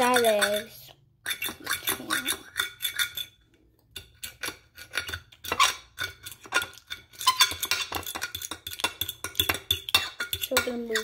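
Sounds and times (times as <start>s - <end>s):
utensil clinking against dish: 0.0s - 11.0s.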